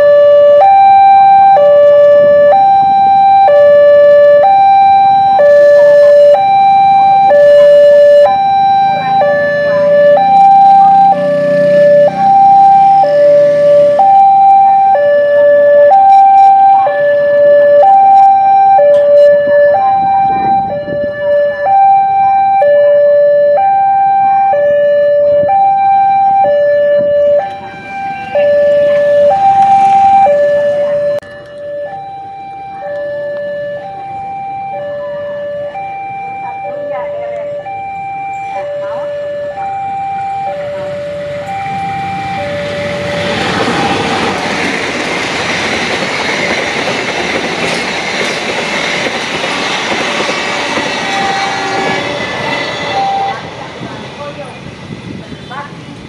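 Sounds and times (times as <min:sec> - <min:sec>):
level crossing two-tone alarm: 0:00.0 - 0:46.0, 0:46.8 - 0:53.6.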